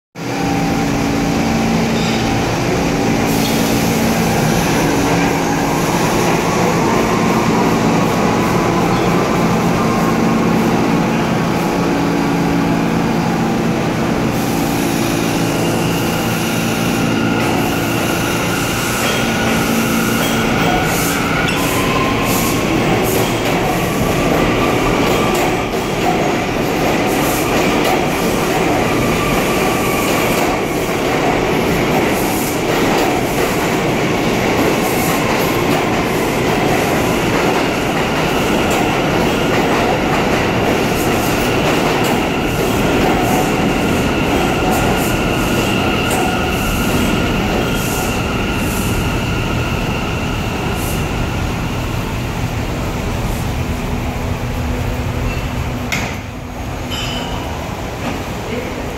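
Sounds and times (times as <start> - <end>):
subway train rumbling: 0.2 - 58.9.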